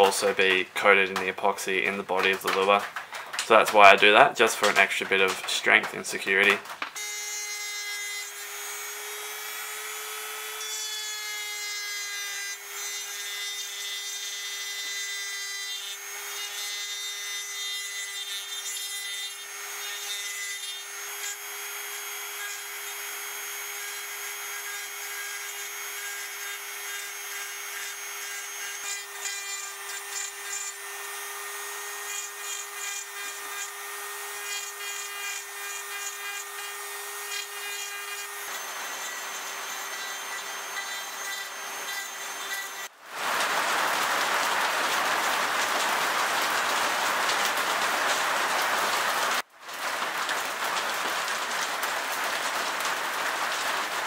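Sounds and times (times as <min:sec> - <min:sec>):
rotary tool grinding wood: 0:00.0 - 0:54.0.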